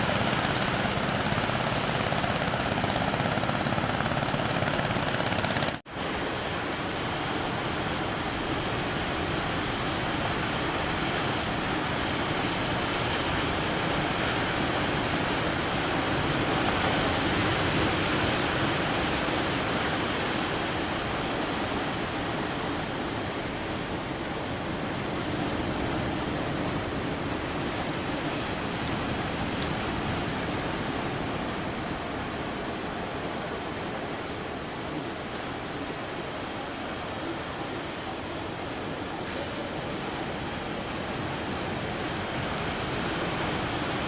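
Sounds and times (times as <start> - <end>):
big waves breaking in surf: 0.0 - 44.0.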